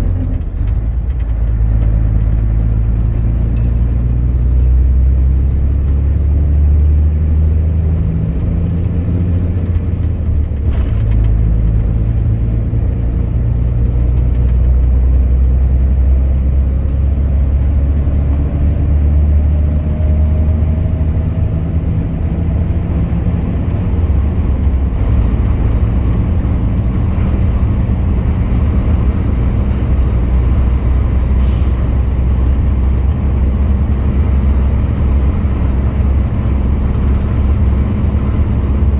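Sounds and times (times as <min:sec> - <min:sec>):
road noise: 0:00.0 - 0:38.9
truck engine running: 0:00.0 - 0:38.9.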